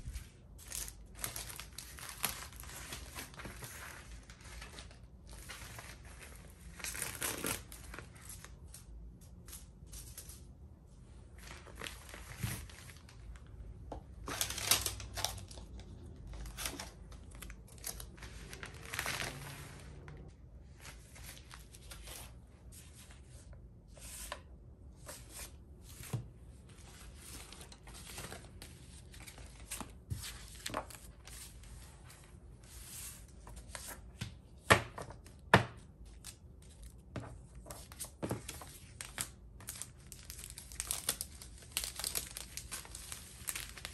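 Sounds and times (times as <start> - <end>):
plastic and paper crinkling: 0.0 - 10.5, 11.3 - 23.3, 26.0 - 34.2, 36.1 - 43.9.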